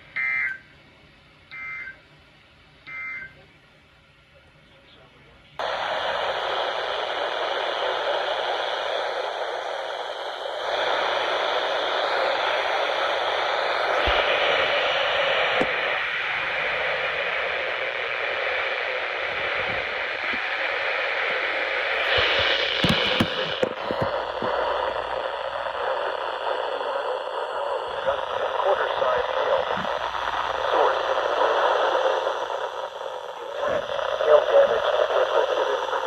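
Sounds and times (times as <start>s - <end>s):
radio static hiss: 4.7s - 36.0s
radio crackling: 5.6s - 36.0s.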